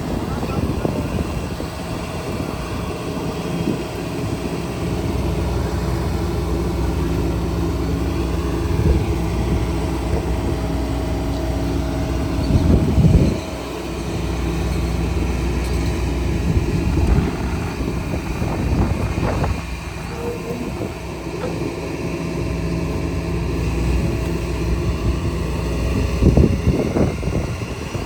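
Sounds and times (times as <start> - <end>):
engine humming: 0.0 - 28.0.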